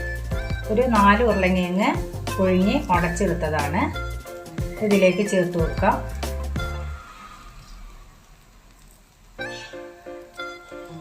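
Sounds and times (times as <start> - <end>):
instrumental music: 0.0 - 7.2, 9.4 - 11.0.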